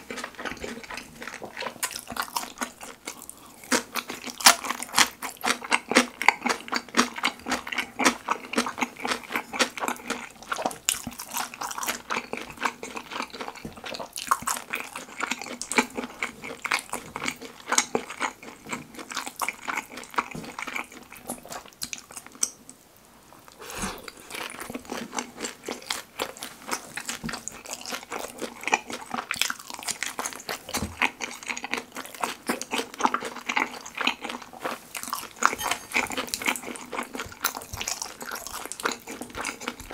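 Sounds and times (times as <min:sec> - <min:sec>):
sticky chewing sounds: 0:00.0 - 0:22.7, 0:23.4 - 0:39.9.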